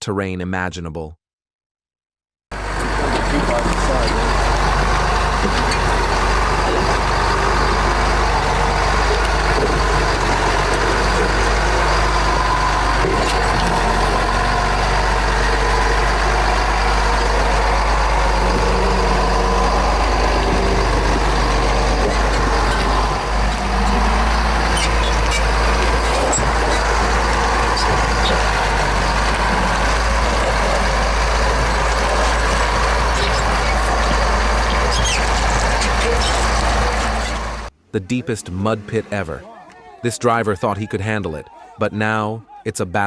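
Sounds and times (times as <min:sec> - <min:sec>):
vehicle engine running under load: 0:02.5 - 0:39.5.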